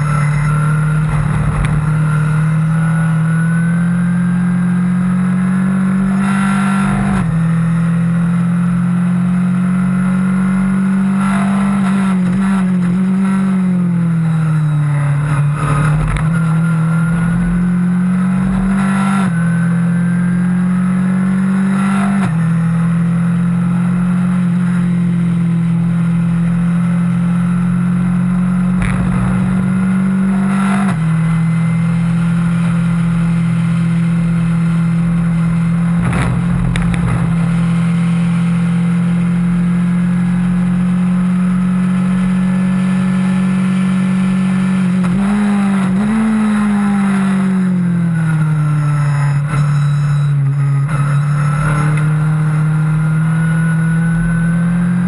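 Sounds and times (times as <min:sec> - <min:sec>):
race car engine at high revs: 0:00.0 - 0:55.0
wind and road rush: 0:00.0 - 0:55.0.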